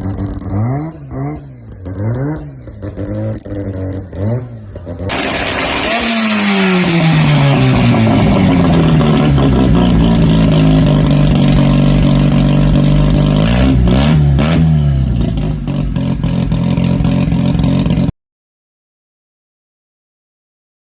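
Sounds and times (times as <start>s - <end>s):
rotary engine idling and revving: 0.0s - 18.1s.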